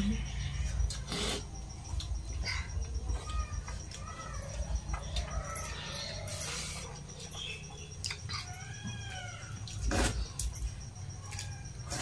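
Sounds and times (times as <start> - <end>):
hands eating from steel plates: 0.8 - 12.0.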